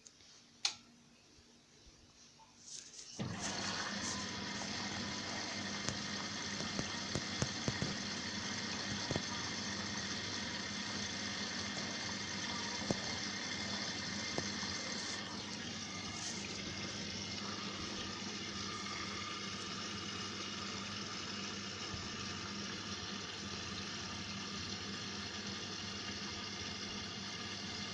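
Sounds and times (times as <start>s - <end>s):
faint hum: 0.0s - 27.9s
water filling washing machine drum: 3.2s - 27.9s.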